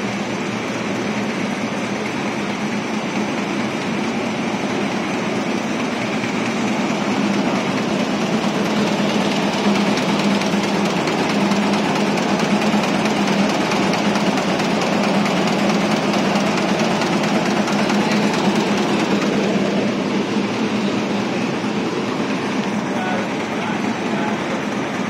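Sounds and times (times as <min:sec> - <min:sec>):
constant machine hum: 0:00.0 - 0:25.0
knitting machine clatter: 0:01.5 - 0:25.0.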